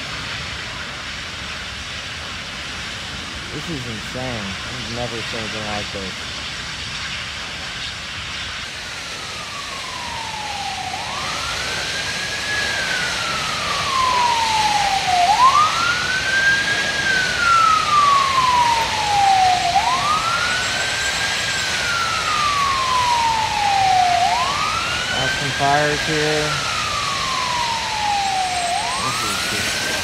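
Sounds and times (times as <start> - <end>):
fire engine siren wailing: 0.0 - 30.0
steady rushing noise: 0.0 - 30.0.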